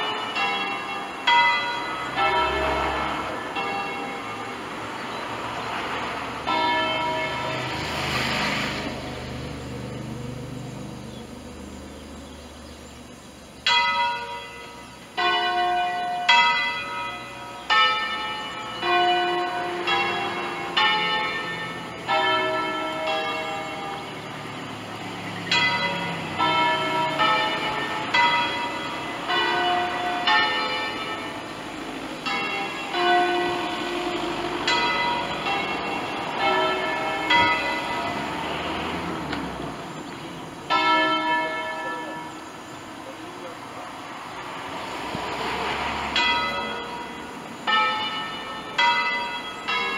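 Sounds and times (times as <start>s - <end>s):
church bells ringing: 0.0s - 10.9s, 13.6s - 49.9s.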